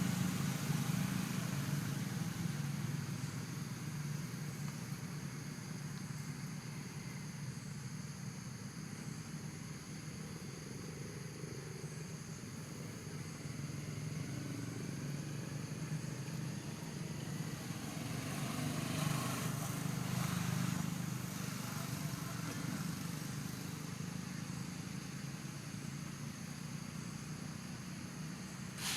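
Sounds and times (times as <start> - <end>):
passing traffic rumble: 0.0 - 28.9.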